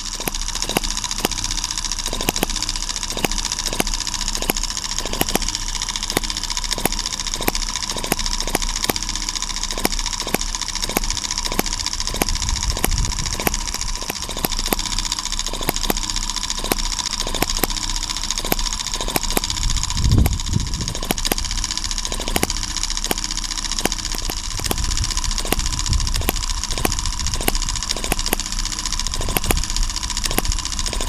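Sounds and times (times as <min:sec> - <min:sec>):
model engine clicking: 0:00.0 - 0:31.0.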